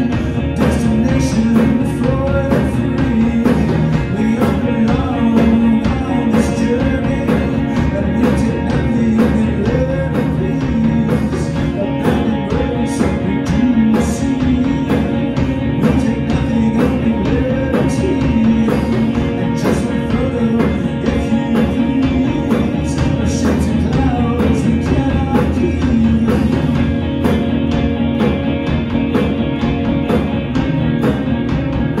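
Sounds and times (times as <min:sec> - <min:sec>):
bass guitar: 0:00.0 - 0:32.0
distorted electric guitars: 0:00.0 - 0:32.0
drum kit: 0:00.0 - 0:32.0.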